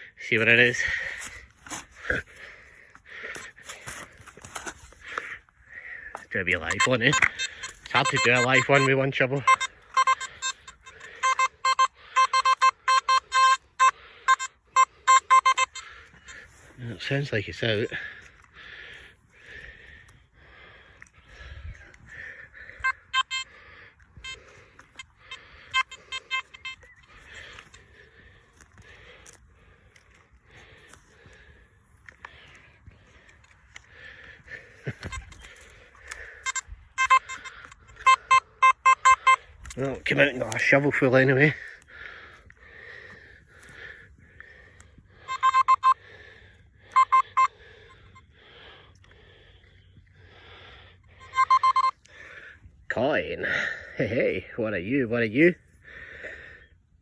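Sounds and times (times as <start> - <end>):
metal detector beeps: 0.3 - 2.2, 3.2 - 4.0, 6.1 - 18.6, 21.3 - 29.4, 30.1 - 41.9, 42.9 - 55.6.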